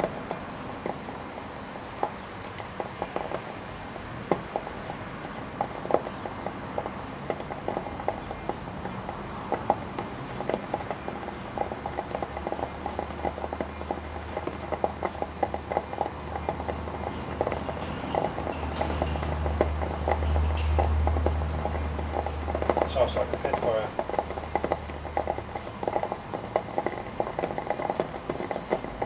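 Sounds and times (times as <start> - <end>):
electrical crackling and popping: 0.0 - 29.0.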